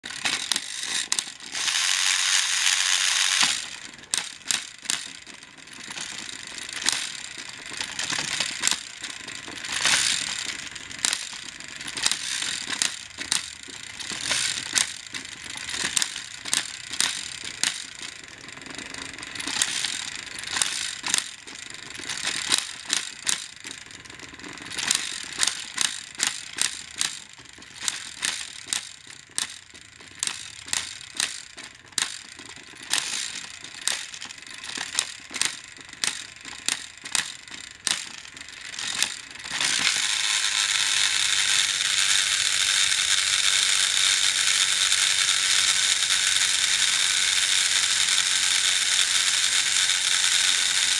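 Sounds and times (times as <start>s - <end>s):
gear-driven whir: 0.0s - 50.9s
toy train motors humming: 0.0s - 50.9s
wheels clacking on plastic track: 0.0s - 50.9s.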